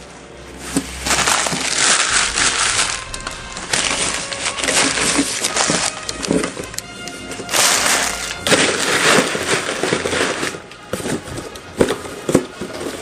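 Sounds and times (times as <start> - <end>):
packing paper crinkling and rustling: 0.0 - 13.0.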